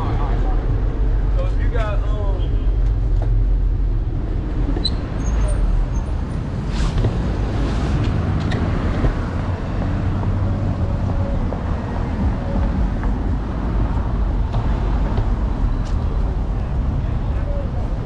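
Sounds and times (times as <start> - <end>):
cars passing: 0.0 - 18.0
street traffic rumble: 0.0 - 18.0.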